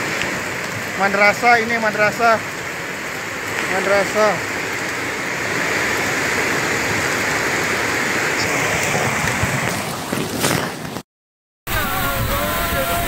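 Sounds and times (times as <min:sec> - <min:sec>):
rushing flood water: 0:00.0 - 0:11.0, 0:11.7 - 0:13.0.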